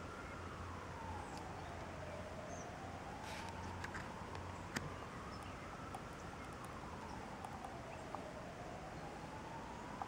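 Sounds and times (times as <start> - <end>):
distant wailing siren: 0.0 - 10.0
faint outdoor background: 0.0 - 10.0.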